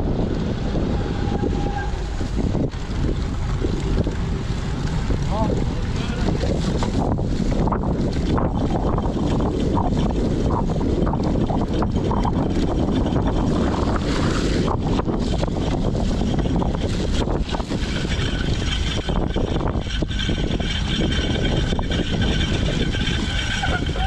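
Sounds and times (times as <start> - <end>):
bike knocking and rattling: 0.0 - 24.0
bike tyres rumbling: 0.0 - 24.0
wind rushing over microphone: 0.0 - 24.0.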